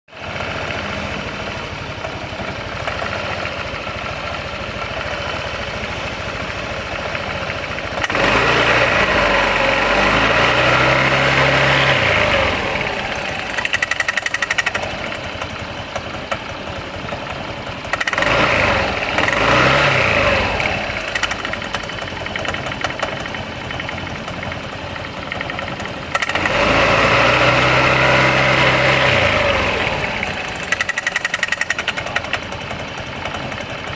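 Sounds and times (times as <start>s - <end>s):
rattling drivetrain: 0.1s - 33.9s
scooter engine revving: 0.1s - 33.9s.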